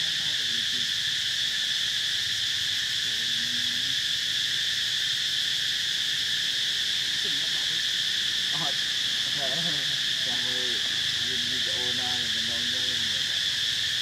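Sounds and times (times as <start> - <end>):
insect chorus droning: 0.0 - 14.0.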